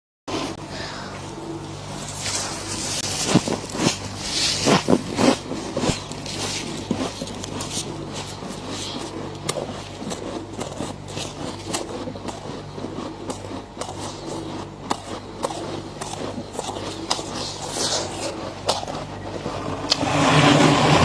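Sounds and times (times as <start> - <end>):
faint low hum: 0.3 - 21.0
frost being scraped and crunched: 1.2 - 21.0.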